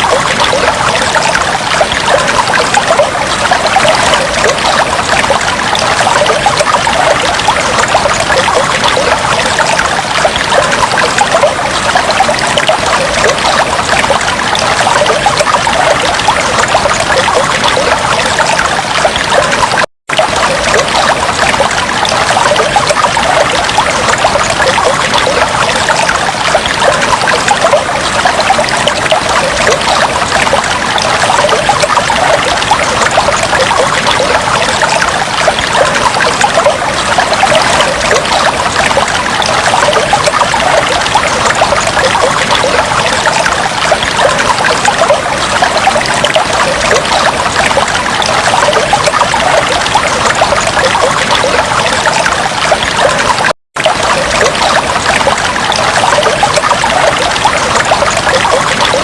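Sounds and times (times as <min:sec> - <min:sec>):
aquarium water trickling and bubbling: 0:00.0 - 0:59.0.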